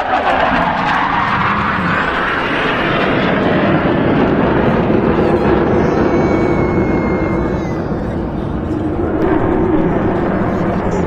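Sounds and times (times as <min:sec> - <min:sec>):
aircraft engine roar: 0:00.0 - 0:11.0.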